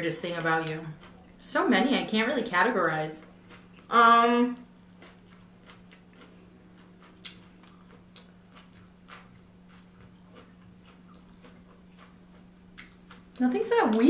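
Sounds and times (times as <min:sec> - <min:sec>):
steady low hum: 0:00.0 - 0:14.0
faint chewing: 0:00.4 - 0:01.4, 0:03.2 - 0:03.9, 0:04.5 - 0:14.0.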